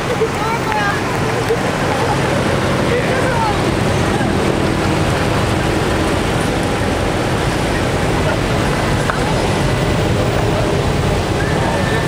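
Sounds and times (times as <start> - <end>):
car engines rumbling: 0.0 - 12.0
faint voices: 0.0 - 12.0.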